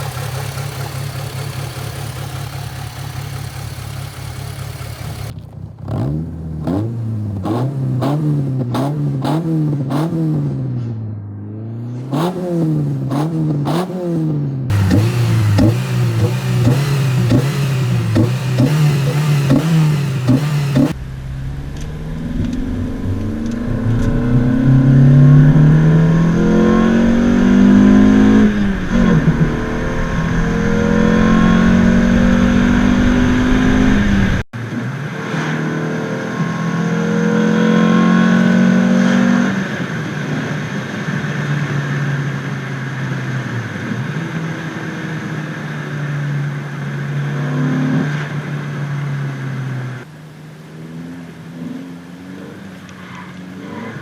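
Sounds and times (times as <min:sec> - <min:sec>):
car engine accelerating through gears: 0:00.0 - 0:50.1.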